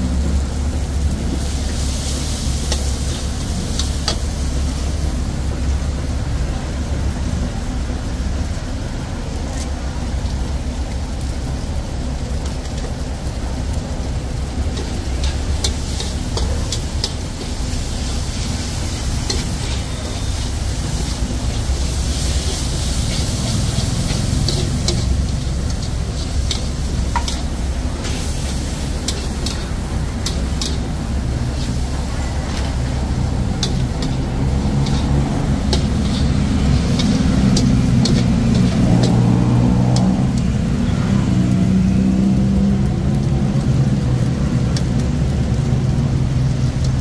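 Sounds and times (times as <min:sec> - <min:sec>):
frying sizzle in wok: 0:00.0 - 0:47.0
steady low rumble: 0:00.0 - 0:47.0.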